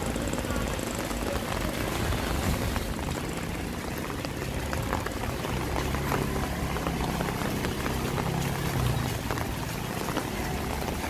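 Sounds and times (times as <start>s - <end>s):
rain on wet pavement: 0.0s - 11.0s
scooter engine running: 0.0s - 11.0s
water drips: 0.0s - 11.0s.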